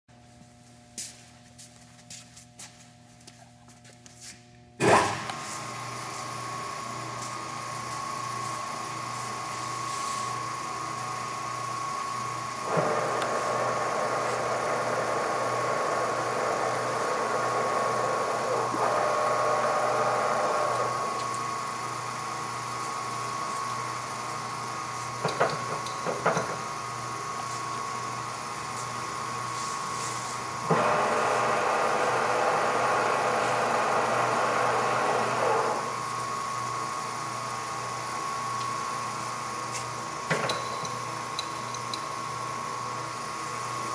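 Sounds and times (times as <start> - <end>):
lathe gear whine: 5.7 - 43.9.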